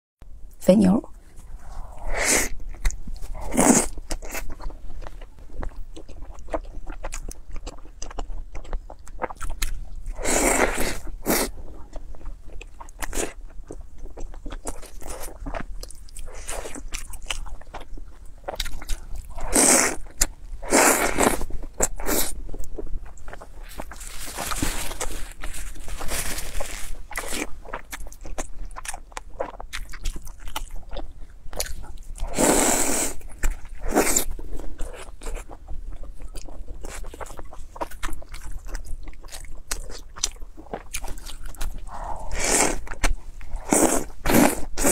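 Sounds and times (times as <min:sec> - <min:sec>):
wet chewing and smacking: 0:02.5 - 0:26.0, 0:26.9 - 0:44.9.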